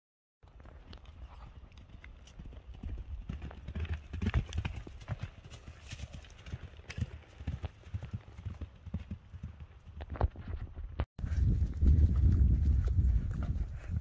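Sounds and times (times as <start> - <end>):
hoofbeats on grass: 0.5 - 14.0.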